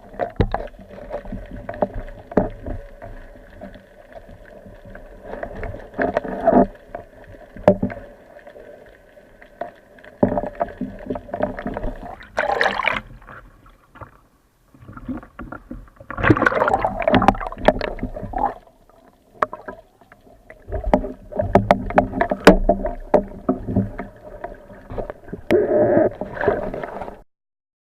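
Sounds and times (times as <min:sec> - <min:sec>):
water sloshing and splashing: 0:00.0 - 0:27.2.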